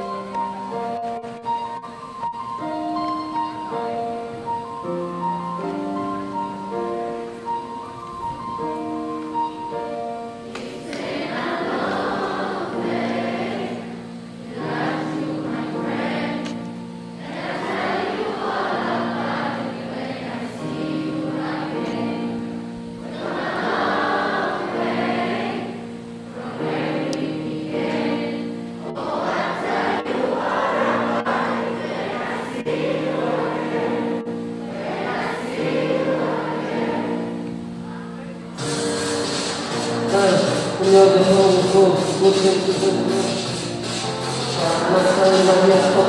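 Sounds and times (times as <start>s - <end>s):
choir singing over held chords: 0.0s - 46.0s.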